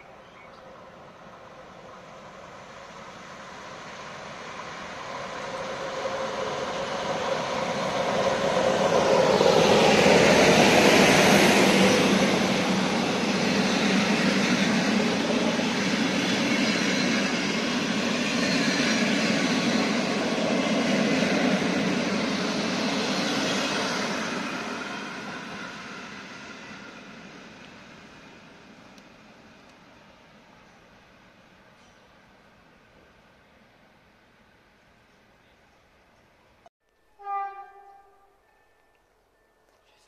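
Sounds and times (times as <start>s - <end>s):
diesel locomotive passing: 0.0s - 36.6s.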